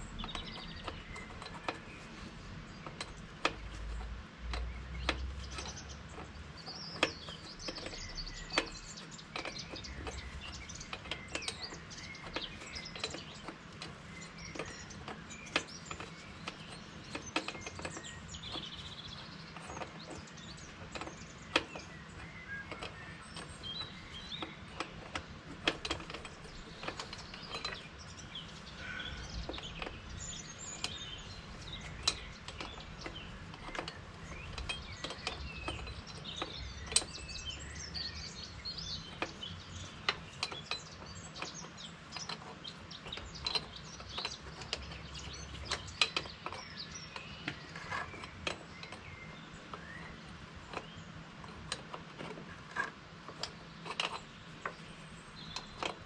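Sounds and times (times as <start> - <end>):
hand tool clicks and knocks: 0.0 - 56.0
small birds chirping: 0.0 - 56.0.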